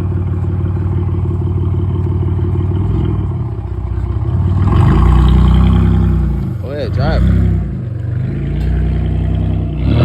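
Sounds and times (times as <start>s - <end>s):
loud deep engine idling: 0.0s - 10.0s.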